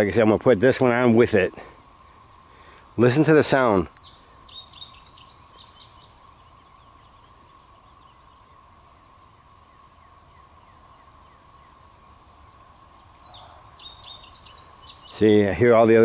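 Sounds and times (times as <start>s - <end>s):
faint distant high hum: 0.0s - 16.0s
faint bird chirps: 1.4s - 16.0s.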